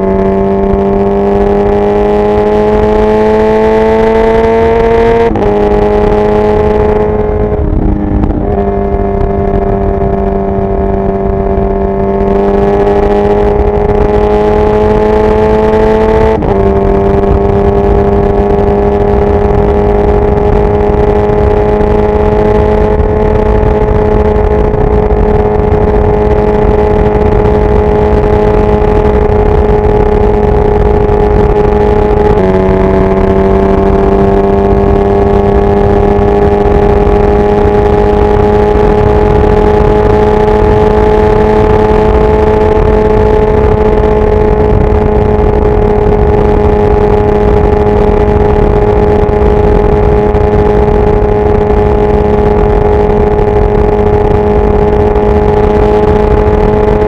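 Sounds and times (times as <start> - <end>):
motorcycle engine running: 0.0 - 57.0
wind rumbling on microphone: 0.0 - 57.0.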